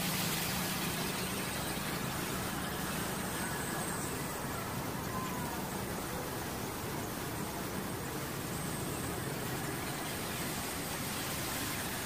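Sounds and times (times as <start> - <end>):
water spraying hiss: 0.0 - 12.0.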